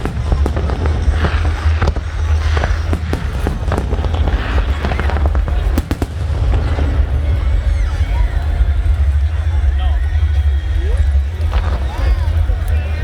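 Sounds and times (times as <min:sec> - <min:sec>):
continuous low rumble: 0:00.0 - 0:13.0
fireworks bangs and crackles: 0:00.0 - 0:13.0.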